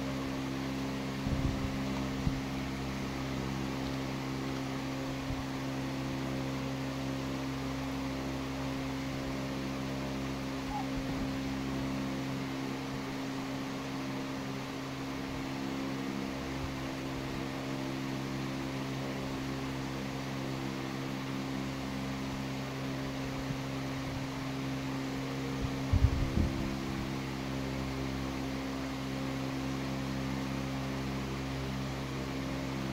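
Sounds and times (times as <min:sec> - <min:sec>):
machine hum: 0:00.0 - 0:32.9.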